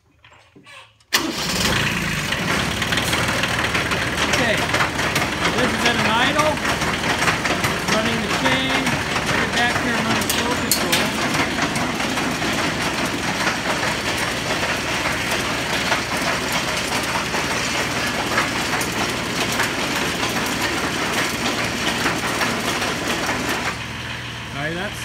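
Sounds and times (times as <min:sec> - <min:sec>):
tractor idling: 0:01.1 - 0:25.0.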